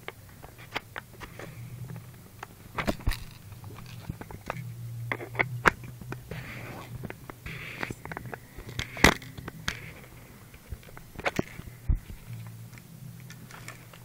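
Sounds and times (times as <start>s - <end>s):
handling clicks and knocks: 0.0s - 6.4s, 7.0s - 14.0s
low steady hum: 0.0s - 14.0s.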